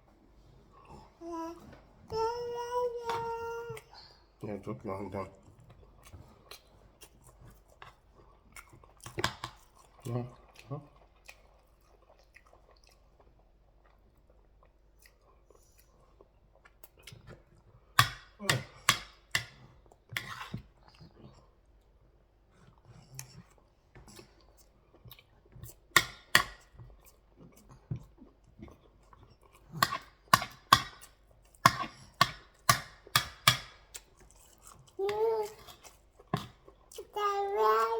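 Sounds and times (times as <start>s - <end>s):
person chewing crisp food: 5.6s - 18.0s, 19.9s - 37.9s.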